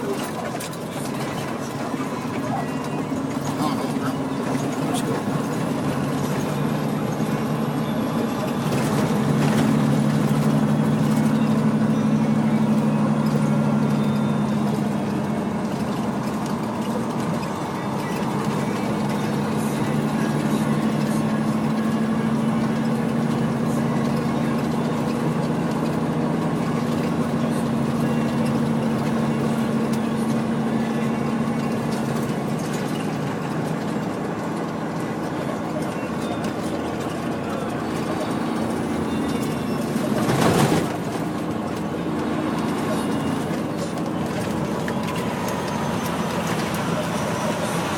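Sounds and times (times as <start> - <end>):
road noise: 0.0 - 47.9
truck diesel engine drone: 0.0 - 47.9.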